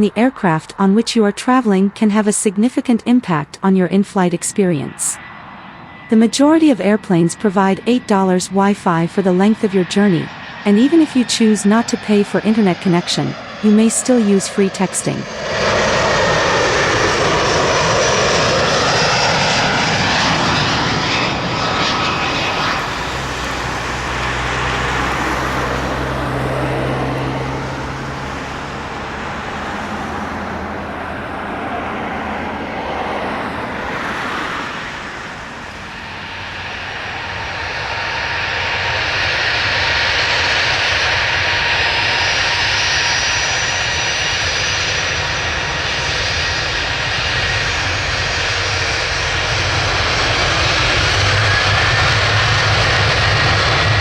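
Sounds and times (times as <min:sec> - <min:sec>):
airliner engines running: 0:00.0 - 0:54.0.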